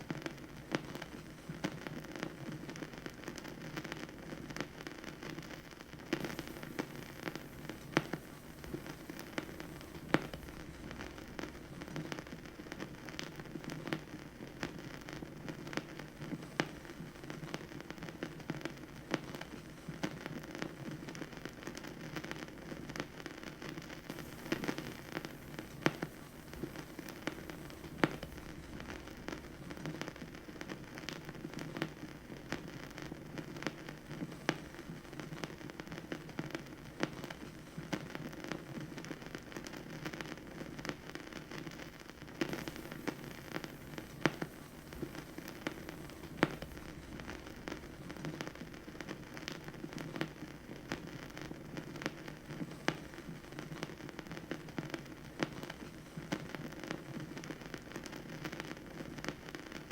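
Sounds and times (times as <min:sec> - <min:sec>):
vinyl record crackle and pops: 0:00.0 - 0:59.9.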